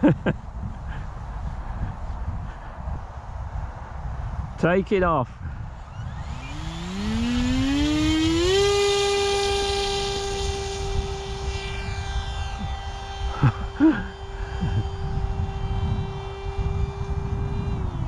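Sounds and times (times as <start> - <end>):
electric motor and propeller whine: 0.0 - 18.0
wind rumble on microphone: 0.0 - 18.0.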